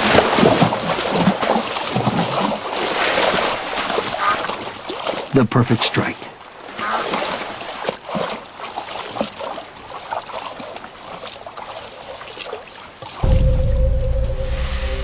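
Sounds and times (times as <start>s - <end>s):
river water splashing and trickling: 0.0s - 14.6s.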